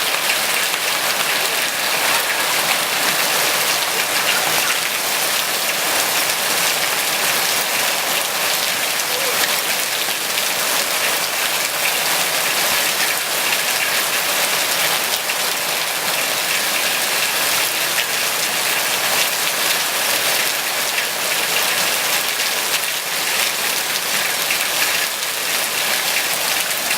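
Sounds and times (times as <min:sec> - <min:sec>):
heavy rain: 0:00.0 - 0:26.9.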